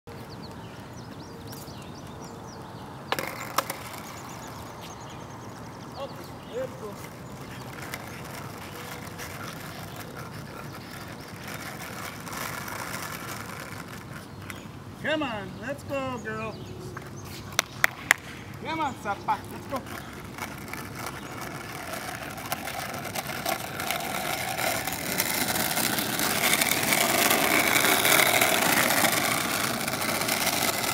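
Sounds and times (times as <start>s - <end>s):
skateboard wheels rolling on asphalt: 0.1s - 30.9s.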